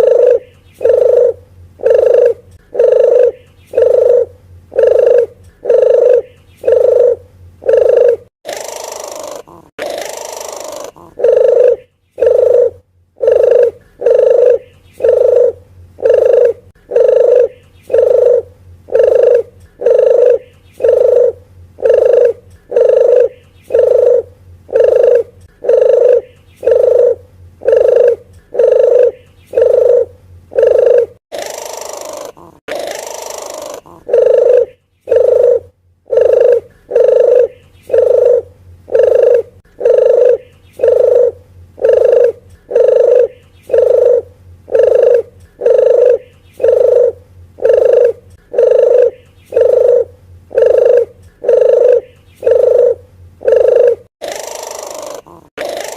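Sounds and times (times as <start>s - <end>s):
dove cooing: 0.0s - 55.9s
faint steady hum: 0.0s - 55.9s
rasping hiss-like bird calls: 0.0s - 55.9s.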